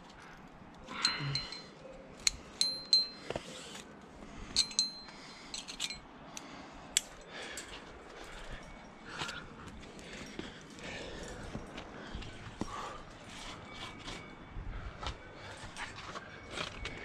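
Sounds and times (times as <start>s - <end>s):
metal climbing gear clinking: 0.0s - 17.0s.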